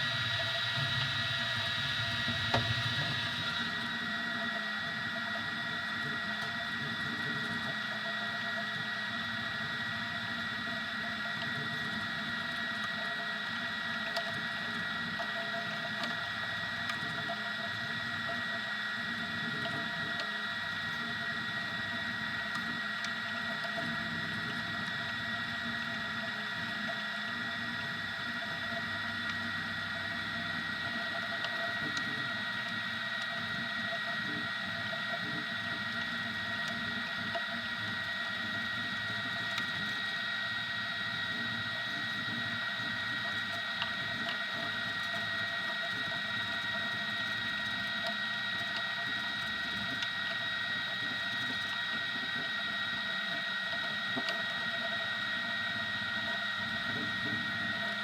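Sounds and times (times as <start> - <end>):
printer whine and hum: 0.0 - 58.0.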